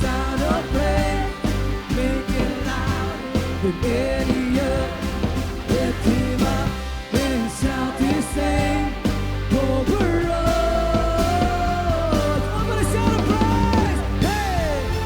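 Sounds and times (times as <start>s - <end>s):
band playing pop-rock song: 0.0s - 15.0s
melodic lead line: 0.0s - 15.0s.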